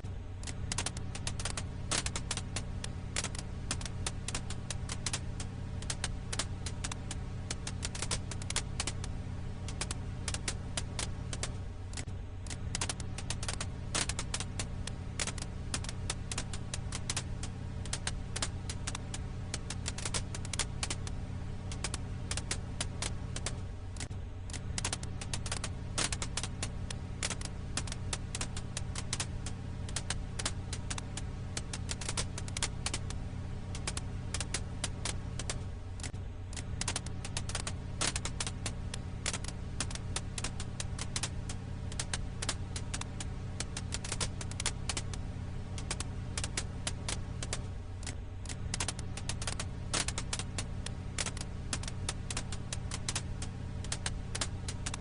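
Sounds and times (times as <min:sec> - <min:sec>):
steady low hum: 0:00.0 - 0:55.0
firewood crackling and popping: 0:00.4 - 0:55.0.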